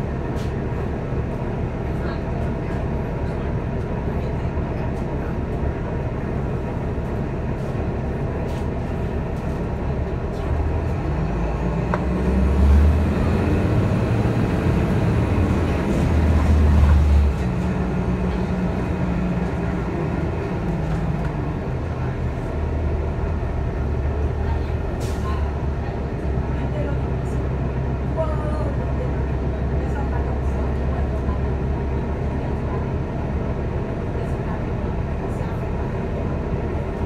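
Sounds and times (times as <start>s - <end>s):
bus engine and road rumble: 0.0s - 37.0s.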